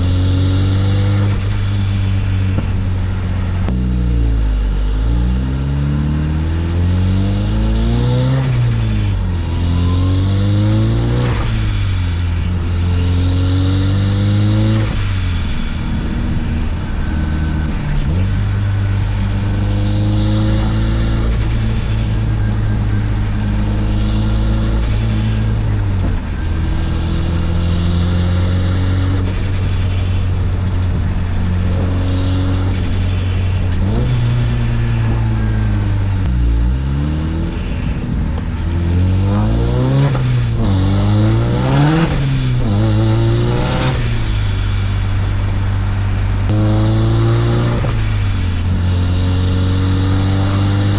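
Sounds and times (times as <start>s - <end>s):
turbocharged car engine running: 0.0s - 50.9s.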